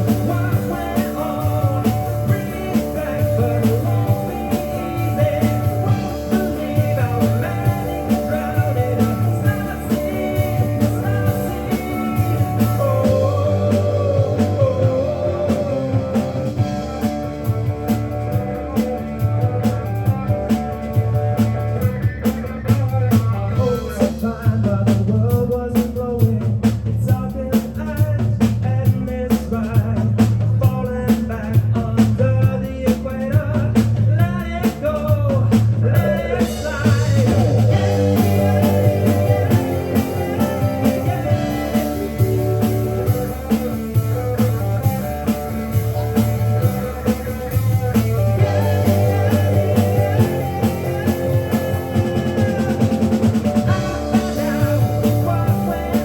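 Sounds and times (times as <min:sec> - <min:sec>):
electric guitars: 0:00.0 - 0:25.4, 0:28.8 - 0:56.0
bass guitar: 0:00.0 - 0:56.0
drum kit: 0:00.0 - 0:56.0.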